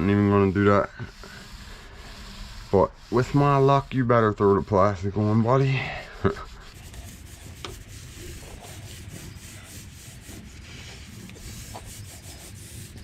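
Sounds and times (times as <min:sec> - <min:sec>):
paintbrush brushing on wood: 0:00.0 - 0:13.0.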